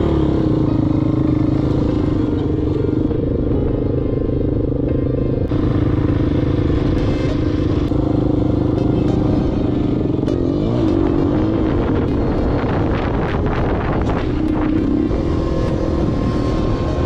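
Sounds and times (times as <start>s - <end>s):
off-road motorcycle engine: 0.0s - 17.0s.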